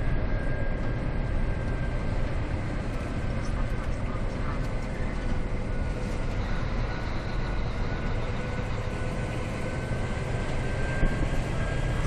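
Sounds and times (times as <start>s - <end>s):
faint steady whine: 0.0s - 12.0s
road and tyre noise: 0.0s - 12.0s
truck diesel engine running: 0.0s - 12.0s.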